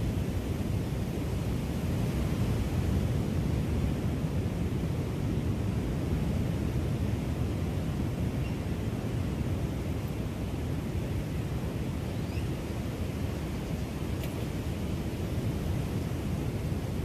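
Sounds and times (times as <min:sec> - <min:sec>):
ocean surf washing: 0:00.0 - 0:17.0
wind on microphone: 0:00.0 - 0:17.0.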